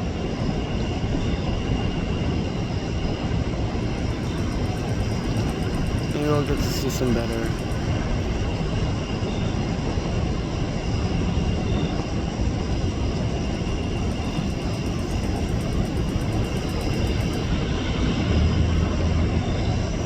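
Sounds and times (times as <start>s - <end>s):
jet engine low rumble: 0.0s - 20.0s.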